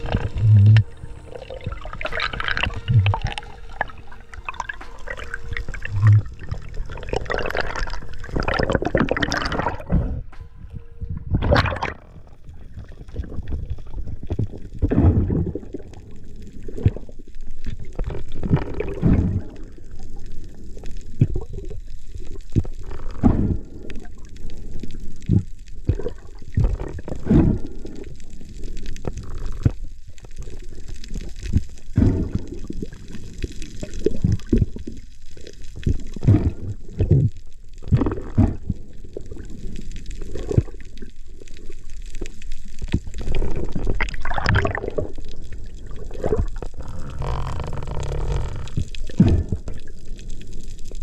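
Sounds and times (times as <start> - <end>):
muffled underwater water rush: 0.0 - 51.0.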